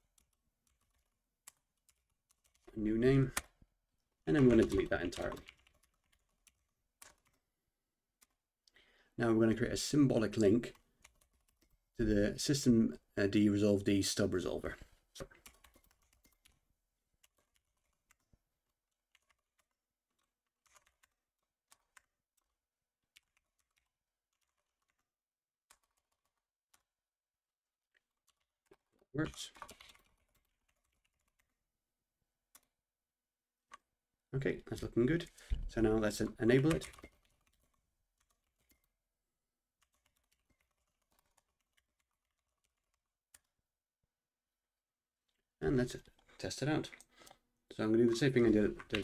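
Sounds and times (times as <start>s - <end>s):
faint keyboard typing: 0.0s - 27.0s, 27.9s - 31.7s, 32.5s - 32.8s, 33.7s - 39.0s, 39.6s - 43.8s, 45.2s - 49.0s.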